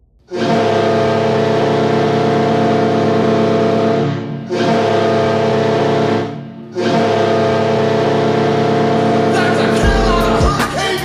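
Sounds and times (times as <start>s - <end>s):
goal horn blast: 0.3s - 11.0s.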